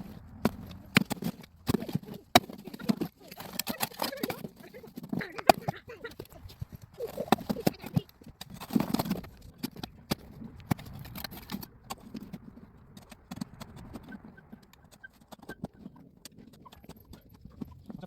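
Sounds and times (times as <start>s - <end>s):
knocks and clicks: 0.0s - 18.0s.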